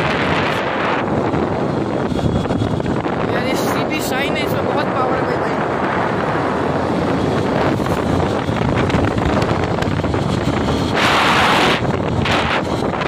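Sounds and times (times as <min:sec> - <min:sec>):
motorcycle engine: 0:00.0 - 0:13.0
wind rushing over microphone: 0:00.0 - 0:13.0.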